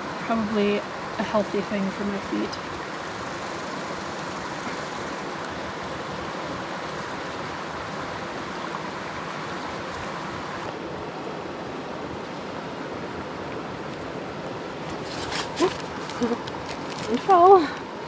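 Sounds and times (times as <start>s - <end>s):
creek flowing over stones: 0.0s - 18.0s.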